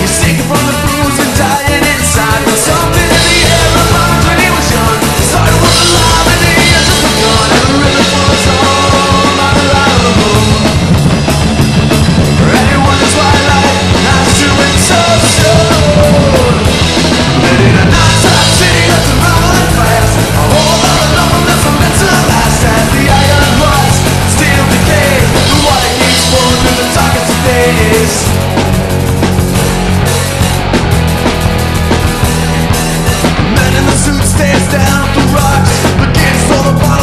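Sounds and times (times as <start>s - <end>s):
bass guitar: 0.0s - 37.0s
drum kit: 0.0s - 37.0s
electric guitar: 0.0s - 37.0s.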